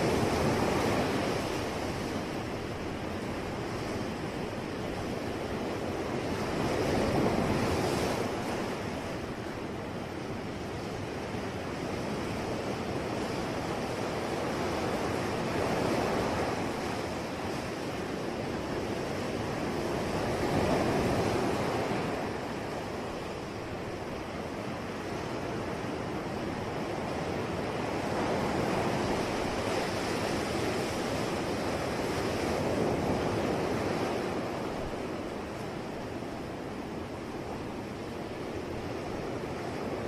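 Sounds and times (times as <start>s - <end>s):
sea waves breaking: 0.0s - 40.0s.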